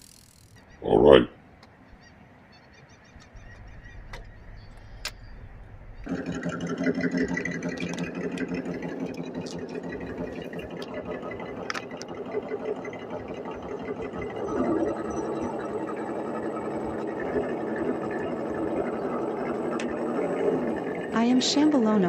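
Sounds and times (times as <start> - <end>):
vehicle engine running: 0.0 - 0.6, 3.2 - 22.0.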